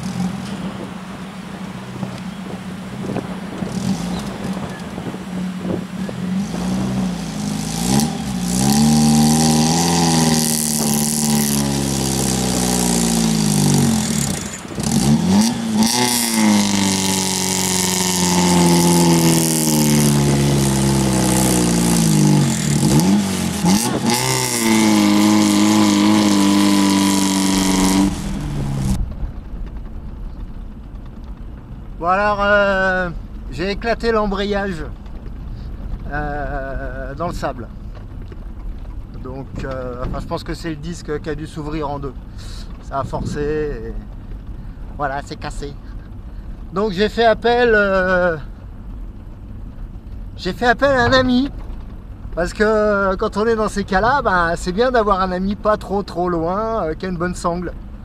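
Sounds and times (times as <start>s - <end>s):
car engine revving: 0.0s - 58.0s
wheels spinning in sand: 0.0s - 58.0s.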